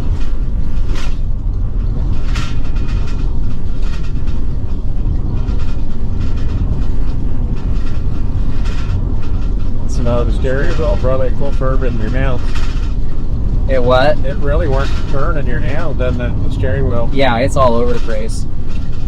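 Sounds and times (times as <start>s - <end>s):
low road rumble in vehicle cab: 0.0s - 19.0s.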